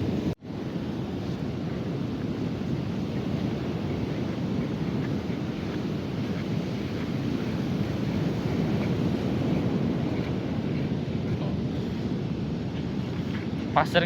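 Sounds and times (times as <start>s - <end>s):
ocean surf on beach: 0.0s - 14.0s
wind buffeting microphone: 0.0s - 14.0s.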